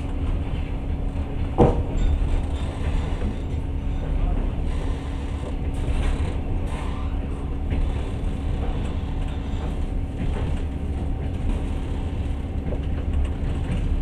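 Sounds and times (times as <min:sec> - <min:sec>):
train carriage low rumble: 0:00.0 - 0:14.0.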